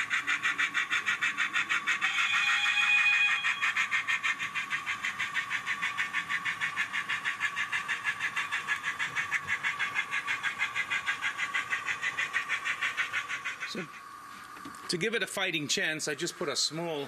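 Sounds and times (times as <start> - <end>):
model steam locomotive chuffing: 0.0 - 14.2
steady whine: 0.0 - 17.0.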